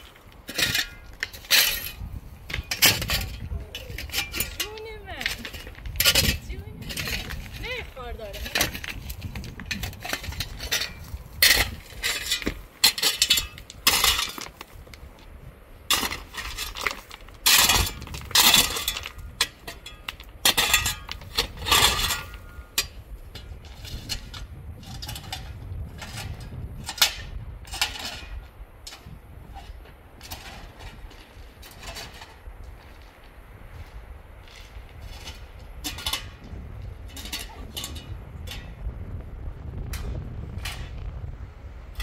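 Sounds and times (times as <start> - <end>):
metal scraping on rocks: 0.0 - 15.2, 15.8 - 39.0, 39.9 - 41.2
pick striking stony ground: 0.0 - 15.3, 15.9 - 33.2, 33.8 - 38.9.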